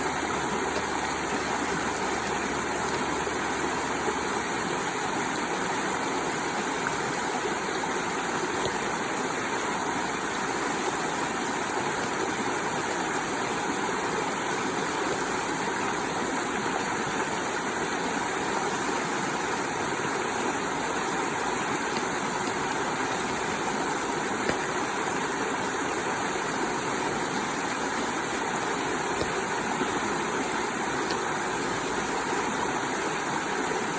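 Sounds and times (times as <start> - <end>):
waterfall pouring: 0.0 - 33.9.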